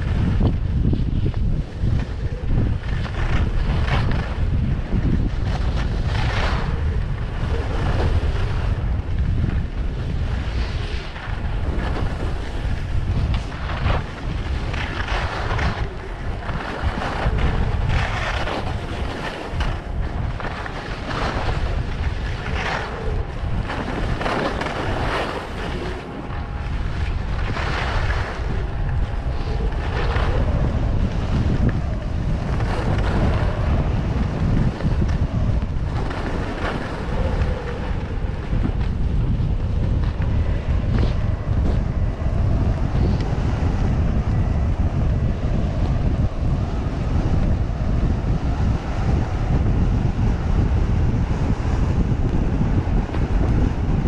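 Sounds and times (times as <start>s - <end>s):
skis scraping on snow: 0.0s - 47.1s
wind rushing over microphone: 0.0s - 54.0s.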